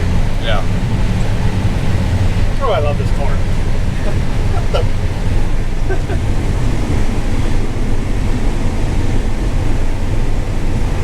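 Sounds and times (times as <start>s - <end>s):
combine harvester engine and threshing: 0.0s - 11.0s.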